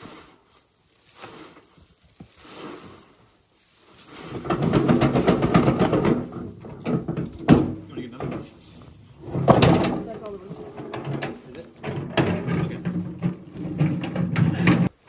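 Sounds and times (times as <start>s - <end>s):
shovel scraping wood chips in metal tub: 0.0s - 14.6s.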